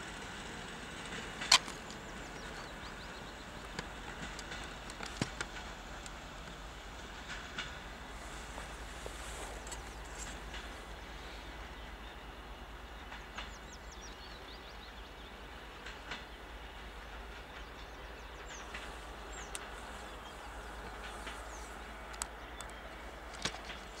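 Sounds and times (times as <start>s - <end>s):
distant train rumble: 0.0s - 24.0s
birds chirping: 1.5s - 5.7s, 6.4s - 24.0s.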